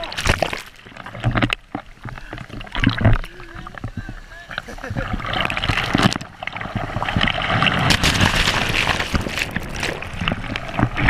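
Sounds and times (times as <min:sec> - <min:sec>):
small water splashes: 0:00.0 - 0:11.0
surf churning water: 0:00.0 - 0:11.0.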